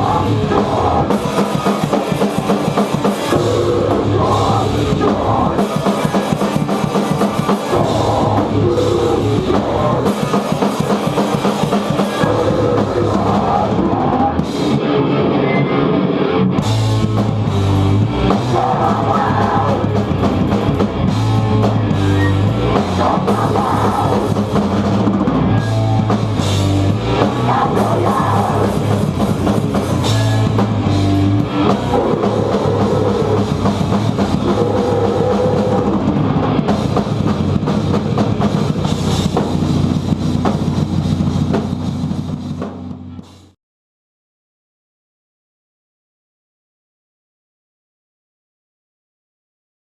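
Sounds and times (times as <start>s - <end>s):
heavy rock band playing: 0.0s - 43.6s.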